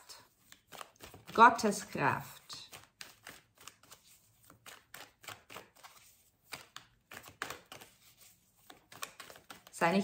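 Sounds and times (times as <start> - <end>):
cards being shuffled: 0.2 - 10.0.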